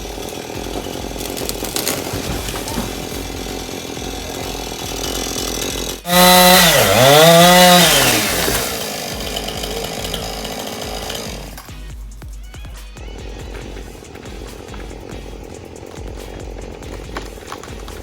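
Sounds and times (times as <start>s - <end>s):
chainsaw running: 0.0s - 12.0s, 12.9s - 18.0s.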